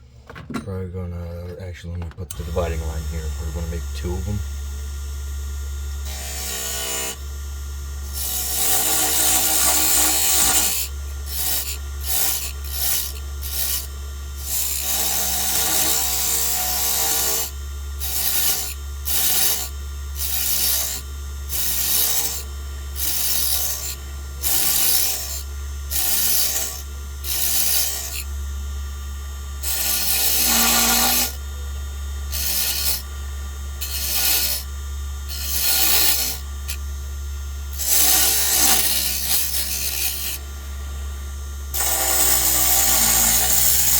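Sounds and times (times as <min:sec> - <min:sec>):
tool scraping spinning wood: 0:00.0 - 0:28.4, 0:29.5 - 0:31.6, 0:32.2 - 0:43.9
wood lathe humming: 0:02.2 - 0:43.9.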